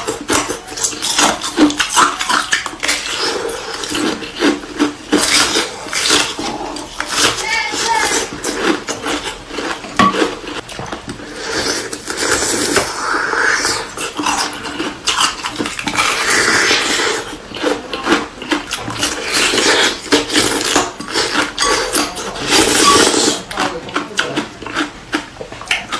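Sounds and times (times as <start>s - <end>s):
ice crunching being chewed: 0.0s - 25.9s.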